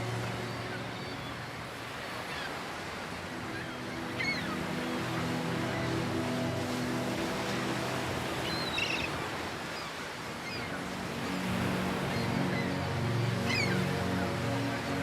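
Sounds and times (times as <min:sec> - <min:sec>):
ocean water wash: 0:00.0 - 0:15.0
soft ambient music: 0:00.0 - 0:15.0.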